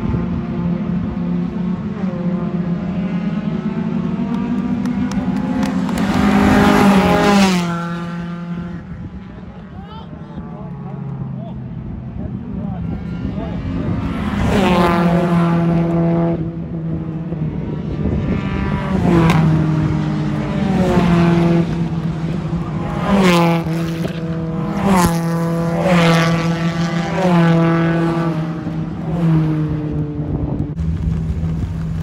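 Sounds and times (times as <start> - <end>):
race cars passing at speed: 0.0 - 32.0.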